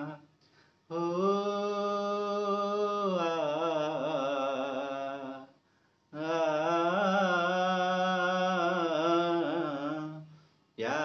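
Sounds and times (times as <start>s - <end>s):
man singing unaccompanied: 0.0s - 0.3s, 0.9s - 5.5s, 6.2s - 11.0s.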